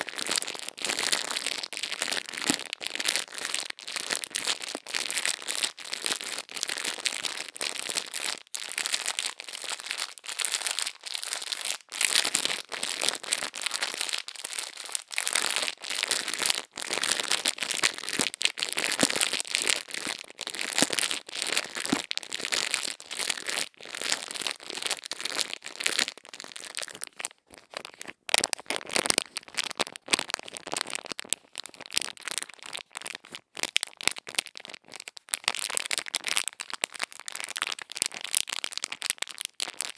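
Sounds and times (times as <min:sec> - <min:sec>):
crackling and crinkling: 0:00.0 - 0:39.9.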